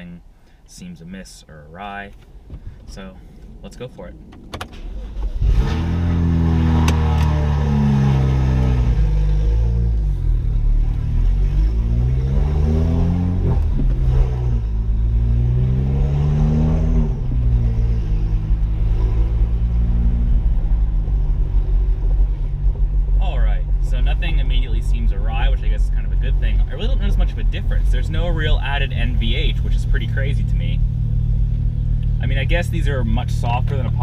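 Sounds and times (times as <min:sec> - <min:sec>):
car engine accelerating through gears: 0:04.9 - 0:34.0.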